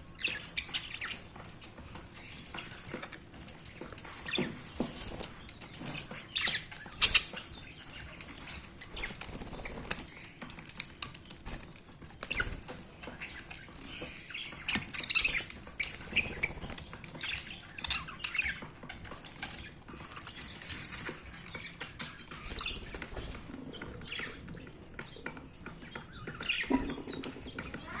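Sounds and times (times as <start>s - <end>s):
wings flapping and splashing: 0.2s - 25.0s.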